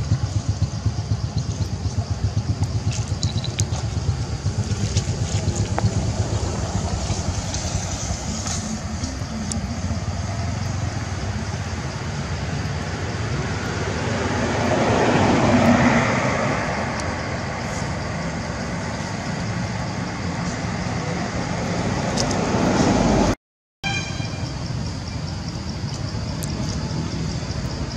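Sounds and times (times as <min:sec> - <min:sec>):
vehicle passing by: 0:00.0 - 0:23.4
road traffic noise: 0:00.0 - 0:27.9.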